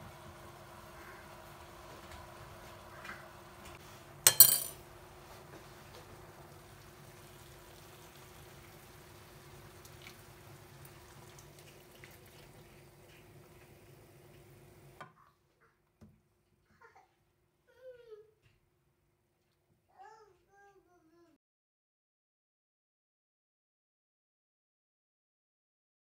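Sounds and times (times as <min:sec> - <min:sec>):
faint kitchen hum: 0:00.0 - 0:21.4.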